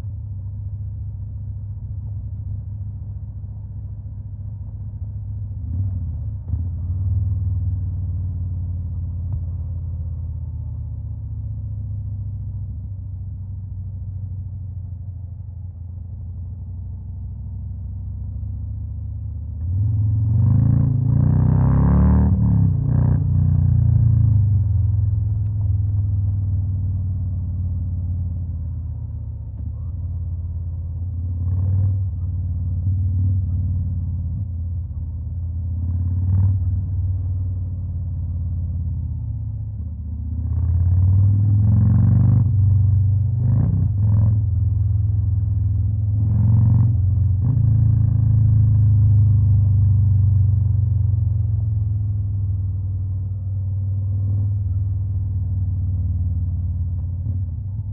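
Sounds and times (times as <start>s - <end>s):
motorcycle engine idling and revving: 0.0s - 57.9s.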